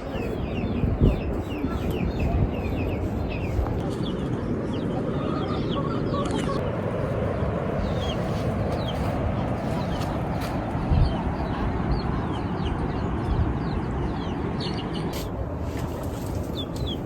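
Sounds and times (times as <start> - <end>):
steady low rushing noise: 0.0 - 17.0.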